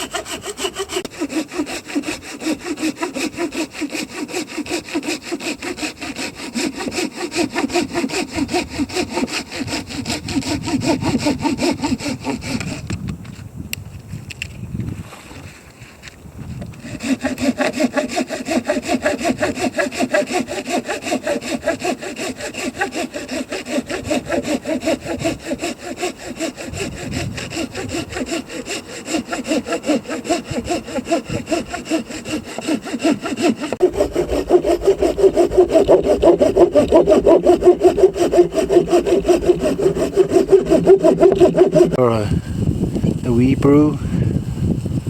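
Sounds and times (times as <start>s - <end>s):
hand saw cutting wood: 0.0s - 13.0s, 16.6s - 42.3s.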